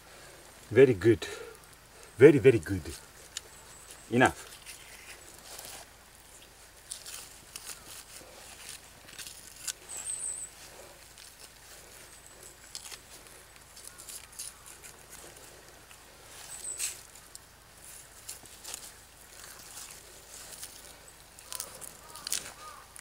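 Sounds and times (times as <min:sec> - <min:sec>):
hands moving against grass: 0:00.0 - 0:23.0.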